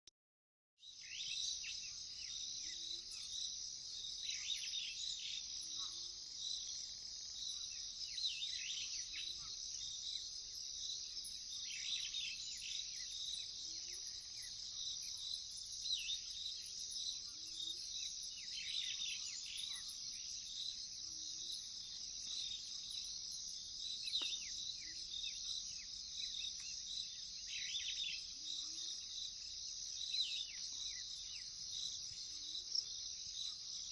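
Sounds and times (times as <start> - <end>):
crickets and insects trilling: 0.9 - 33.9.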